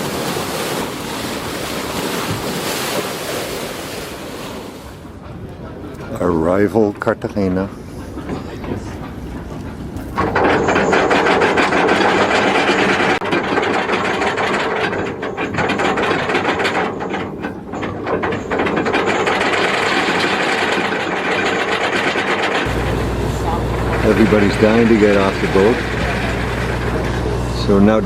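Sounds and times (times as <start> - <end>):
rapid mechanical rattling: 5.2 - 28.0.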